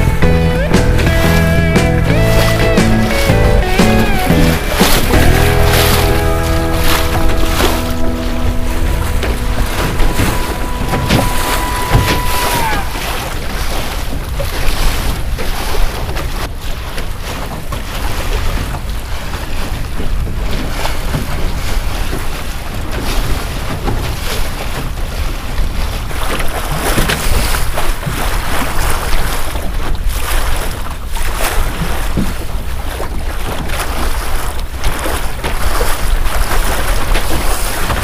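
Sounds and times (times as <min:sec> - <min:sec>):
choppy water rushing: 0:00.0 - 0:38.0
waves splashing against bow: 0:00.0 - 0:38.0
wind buffeting microphone: 0:00.0 - 0:38.0.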